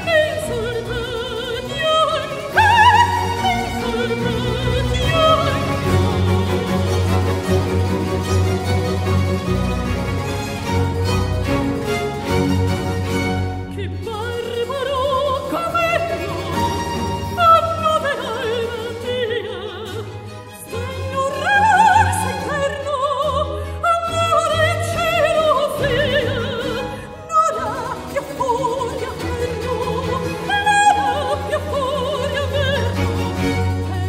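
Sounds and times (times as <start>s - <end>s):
soprano singing opera aria: 0.0s - 7.7s, 13.7s - 34.0s
baroque orchestra: 0.0s - 34.0s.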